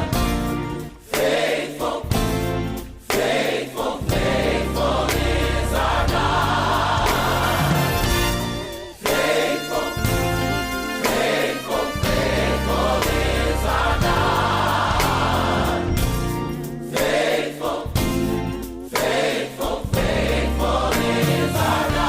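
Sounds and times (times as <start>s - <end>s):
gospel choir singing: 0.0s - 22.0s.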